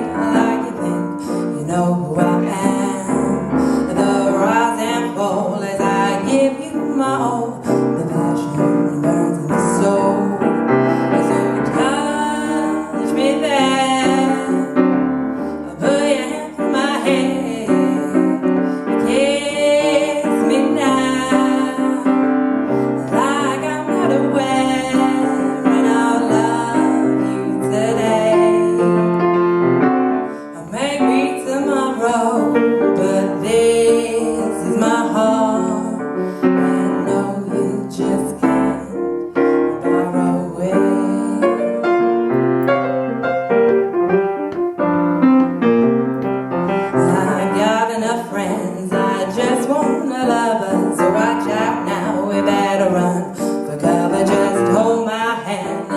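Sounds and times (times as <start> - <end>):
instrumental piano music: 0.0 - 55.9.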